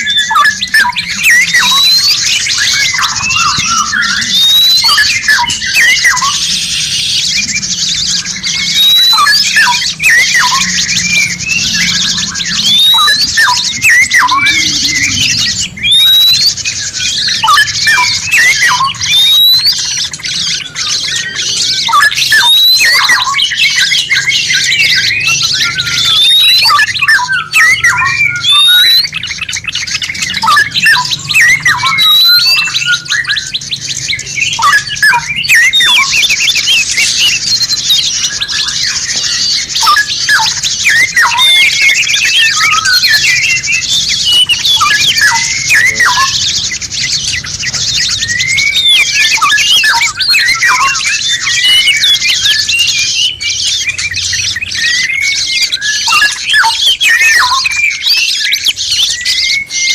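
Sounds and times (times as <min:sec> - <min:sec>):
high buzzy bird trill: 0:00.0 - 0:59.9
songbirds singing and calling: 0:00.0 - 0:59.9.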